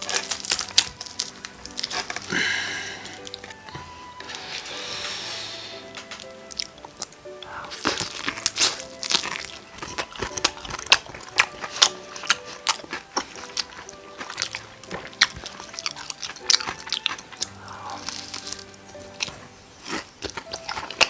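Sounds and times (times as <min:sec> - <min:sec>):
crunchy chewing: 0:00.0 - 0:21.0
quiet background music: 0:00.0 - 0:21.0.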